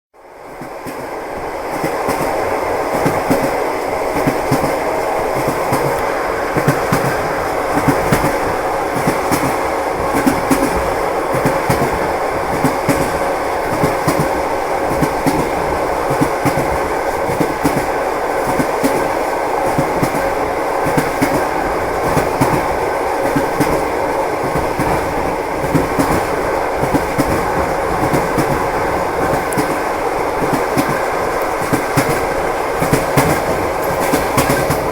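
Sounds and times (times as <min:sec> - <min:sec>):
train wheels clickety-clack: 0:00.4 - 0:34.9.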